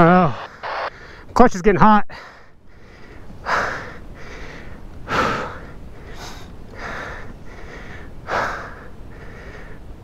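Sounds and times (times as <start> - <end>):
man breathing hard: 0.9 - 1.3, 2.1 - 10.0.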